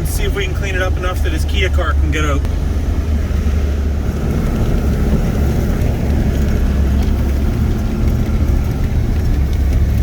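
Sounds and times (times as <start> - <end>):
diesel truck engine droning: 0.0 - 10.0.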